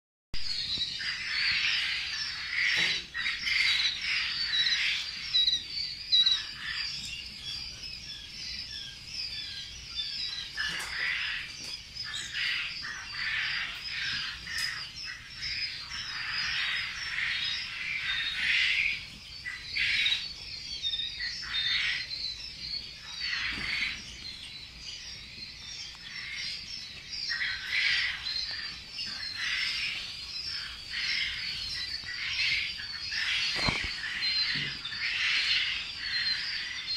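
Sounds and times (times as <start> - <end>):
chicks peeping: 0.4 - 36.9.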